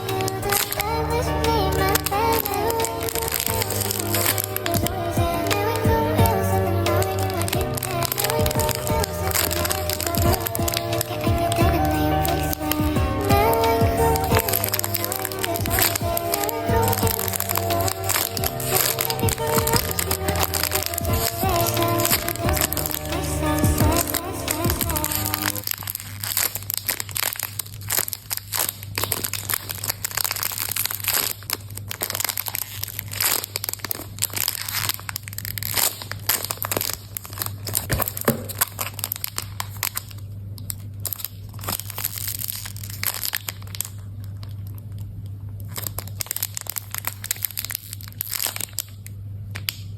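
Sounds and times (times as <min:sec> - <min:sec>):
plastic packaging crinkling: 0:00.0 - 0:49.9.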